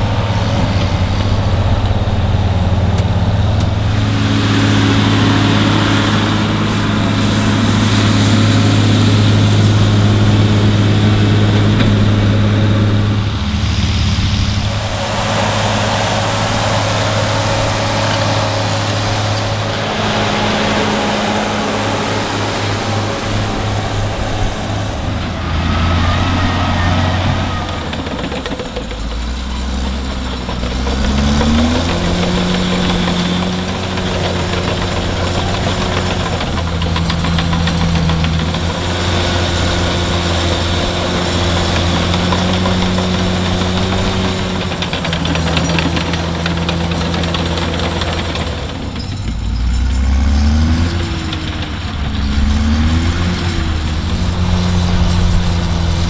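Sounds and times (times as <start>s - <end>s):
heavy machinery engine revving: 0.0s - 56.0s.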